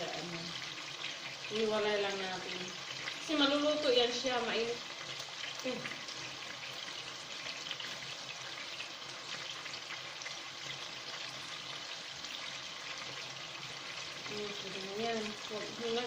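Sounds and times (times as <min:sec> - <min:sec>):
chicken frying in a pan: 0:00.0 - 0:16.0.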